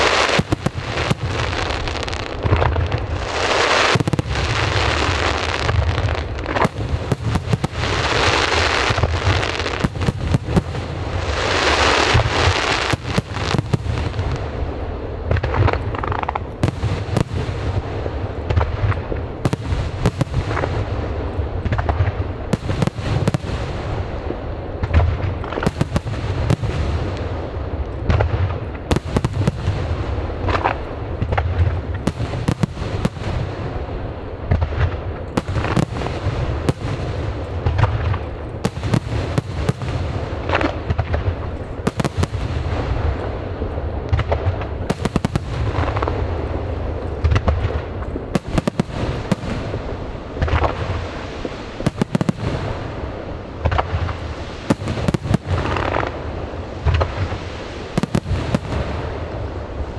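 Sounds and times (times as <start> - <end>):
fireworks bangs and booms: 0.0 - 59.9
fireworks rumble: 0.0 - 59.9
hissing crackle: 0.0 - 59.9.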